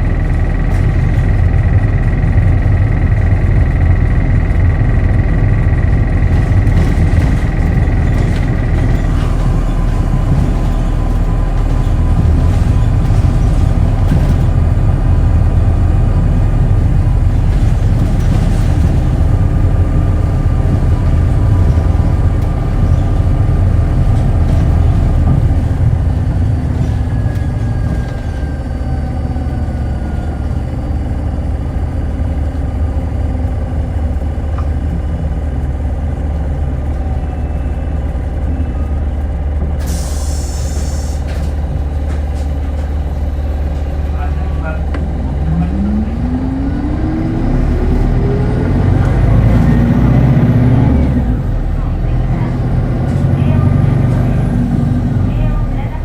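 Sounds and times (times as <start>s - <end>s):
bus drivetrain rumble: 0.0s - 56.0s.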